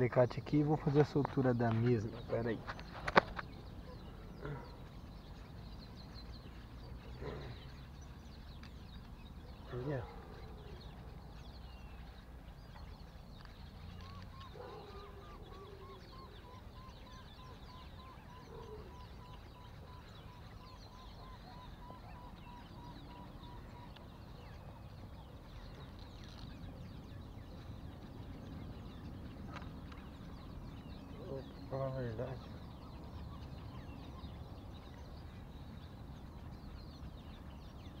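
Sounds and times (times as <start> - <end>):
lower bird calls: 0.0 - 38.0.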